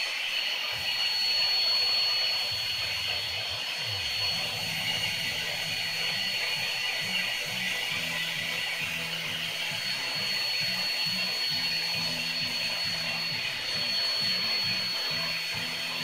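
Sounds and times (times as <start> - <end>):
electric air blower rushing air: 0.0 - 16.0
thin high whine: 0.0 - 16.0.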